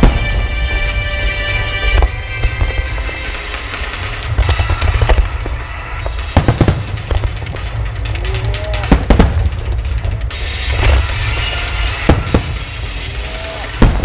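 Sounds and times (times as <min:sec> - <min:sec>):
deep continuous rumble: 0:00.0 - 0:14.0
fireworks bursting: 0:00.0 - 0:14.0
loud music: 0:00.0 - 0:14.0
sharp bangs and crackles: 0:00.0 - 0:14.0.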